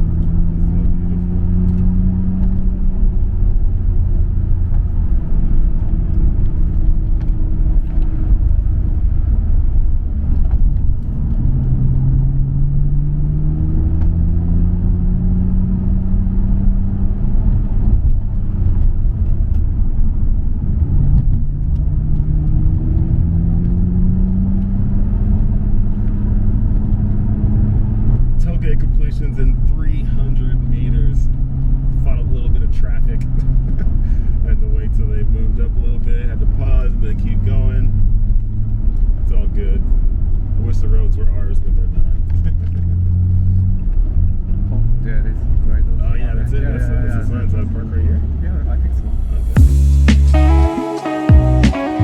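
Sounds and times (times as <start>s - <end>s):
steady low rumble: 0.0s - 51.8s
car engine accelerating: 0.0s - 52.0s.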